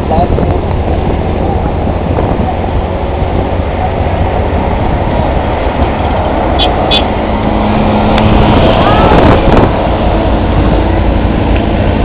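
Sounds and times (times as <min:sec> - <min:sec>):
passing traffic: 0:00.0 - 0:12.0
vehicle driving on road: 0:00.0 - 0:12.0.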